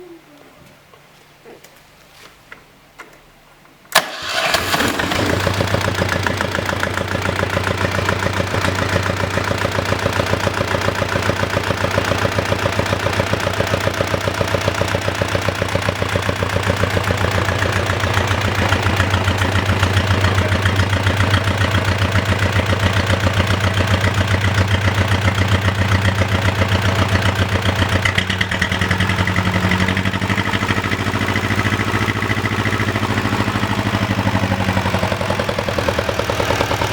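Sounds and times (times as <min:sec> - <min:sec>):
diesel engine knocking: 0:04.2 - 0:36.9.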